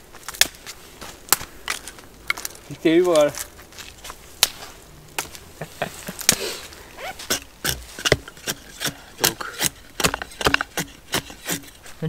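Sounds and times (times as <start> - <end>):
dry wood snapping: 0.2 - 5.4, 7.2 - 11.8.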